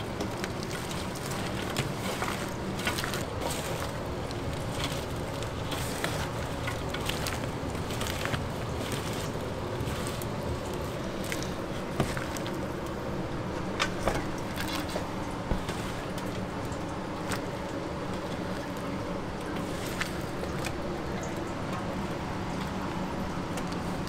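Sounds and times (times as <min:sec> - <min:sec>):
steady background hum: 0:00.0 - 0:24.0
wet squishing of cabbage: 0:00.0 - 0:24.0.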